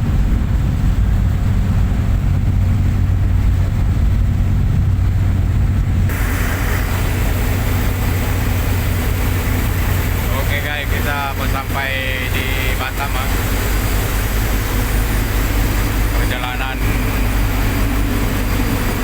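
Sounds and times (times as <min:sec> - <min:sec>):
boat engines droning: 0:00.0 - 0:19.0
rushing wind and water: 0:00.0 - 0:19.0.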